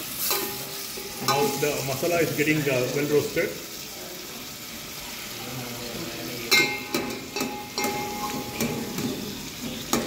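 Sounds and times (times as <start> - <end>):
masala sizzling in a pan: 0.0 - 10.0.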